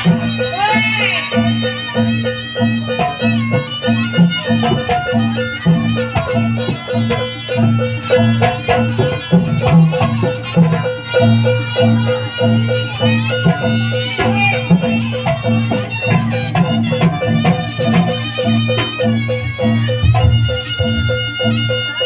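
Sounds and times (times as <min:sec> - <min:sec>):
drums: 0:00.0 - 0:22.0
high wavering melody: 0:00.0 - 0:22.0
tuned percussion: 0:00.0 - 0:22.0.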